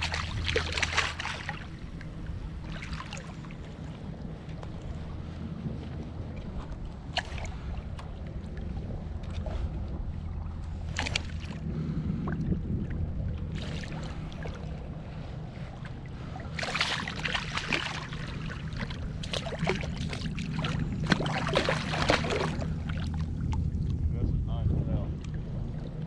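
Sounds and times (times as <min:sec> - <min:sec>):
fish thrashing and splashing water: 0:00.0 - 0:03.9, 0:06.4 - 0:23.7
steady low rumble: 0:00.0 - 0:26.0.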